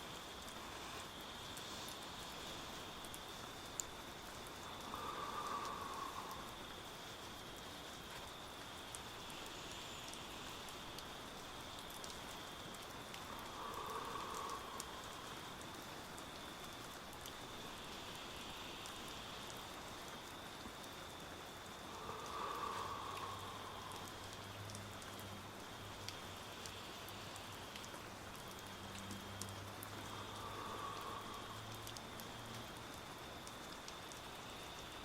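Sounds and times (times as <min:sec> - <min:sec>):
steady rain: 0:00.0 - 0:35.0
man breathing slowly: 0:00.2 - 0:08.2, 0:09.2 - 0:35.0.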